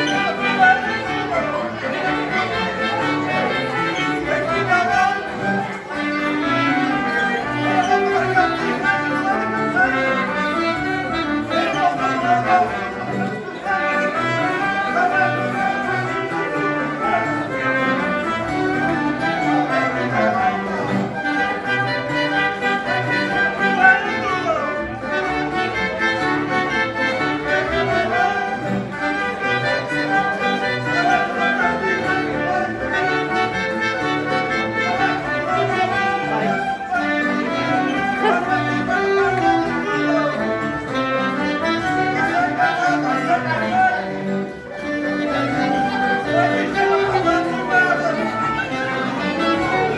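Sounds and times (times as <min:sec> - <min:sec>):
live folk band dance music: 0:00.0 - 0:49.9.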